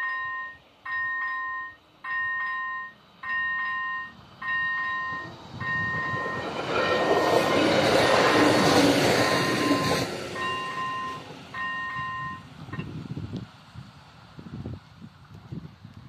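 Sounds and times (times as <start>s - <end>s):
two-tone crossing warning signal: 0.0s - 13.0s
train passing over rails: 0.0s - 14.8s.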